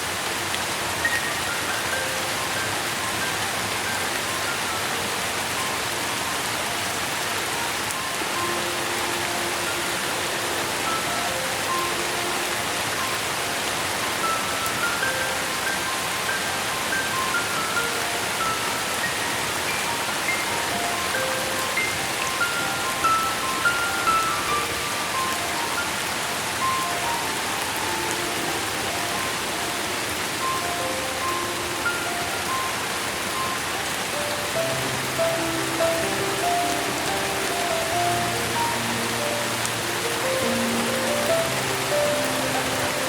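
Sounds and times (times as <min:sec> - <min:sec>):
steady rain hiss: 0:00.0 - 0:43.0
soft melody of held notes: 0:00.6 - 0:43.0
slow bell-like music: 0:01.0 - 0:43.0.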